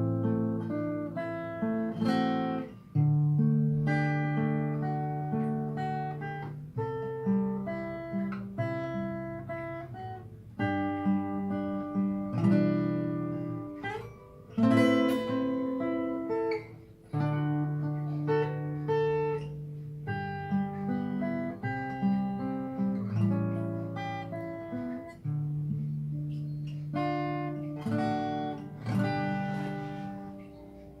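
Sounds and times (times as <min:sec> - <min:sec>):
fingerstyle acoustic guitar: 0:00.0 - 0:31.0.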